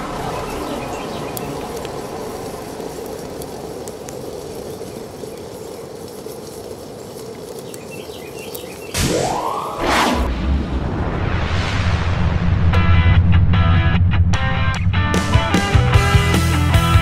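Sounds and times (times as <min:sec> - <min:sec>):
campfire flames rushing: 0:00.0 - 0:17.0
fire crackles: 0:00.0 - 0:17.0.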